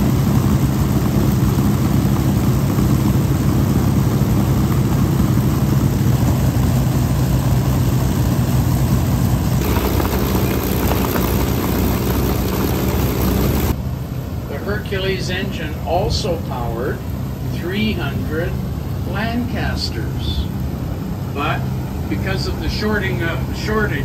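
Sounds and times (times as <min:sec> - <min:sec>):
piston aircraft engine drone: 0:00.0 - 0:24.0.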